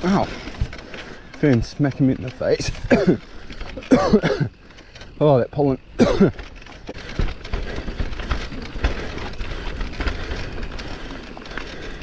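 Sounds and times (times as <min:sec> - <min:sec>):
bike knocks and rattles: 0:00.0 - 0:12.0
bike tyres on dirt trail: 0:00.0 - 0:12.0.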